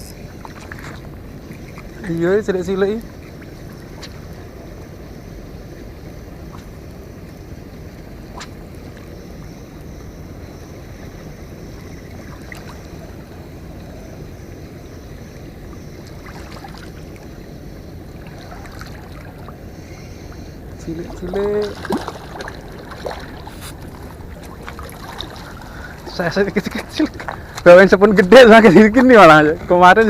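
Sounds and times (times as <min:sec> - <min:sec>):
water: 0:00.0 - 0:30.0
wind: 0:00.0 - 0:30.0.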